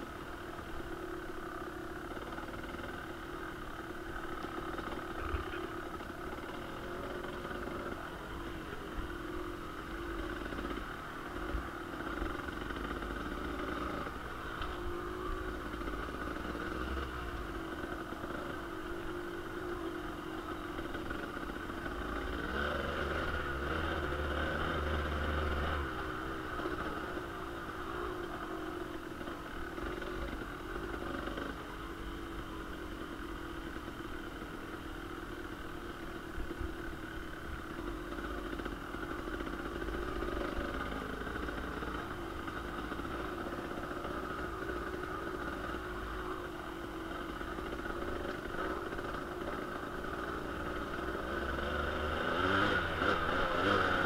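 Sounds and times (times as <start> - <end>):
dirt bike engine revving: 0.6 - 32.5, 37.1 - 54.0.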